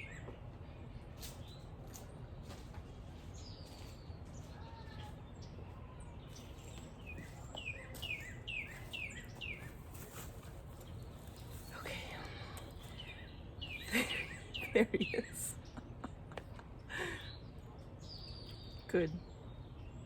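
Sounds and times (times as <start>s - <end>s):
low outdoor background hum: 0.0s - 20.0s
songbirds chirping: 0.0s - 20.0s.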